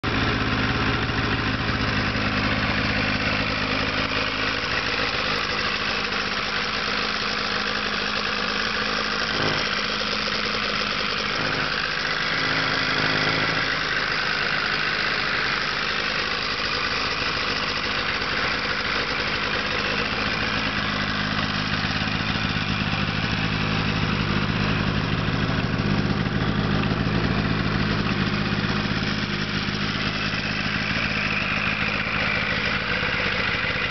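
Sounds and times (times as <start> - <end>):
snowmobile engine idling: 0.0 - 33.9.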